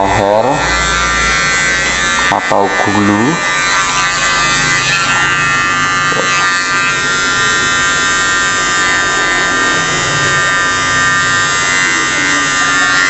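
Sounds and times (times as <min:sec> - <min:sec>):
hair trimmer buzzing: 0:00.0 - 0:13.0.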